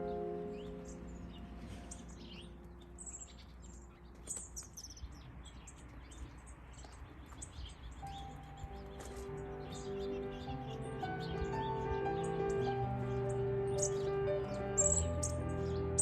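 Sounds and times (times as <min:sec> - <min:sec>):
soft music: 0:00.0 - 0:05.1, 0:07.4 - 0:16.0
small birds chirping: 0:00.0 - 0:16.0.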